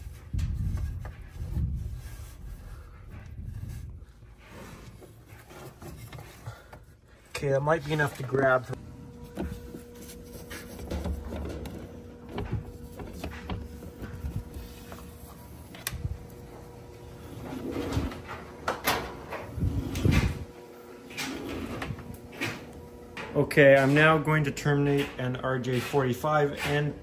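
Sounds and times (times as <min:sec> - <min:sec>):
cable rustling and scraping: 0:00.0 - 0:22.8
clothes dryer hum: 0:00.0 - 0:27.0.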